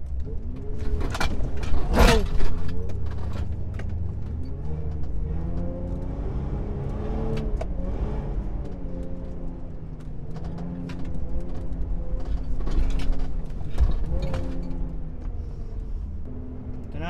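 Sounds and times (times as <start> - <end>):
off-road vehicle engine rumble: 0.0 - 17.0.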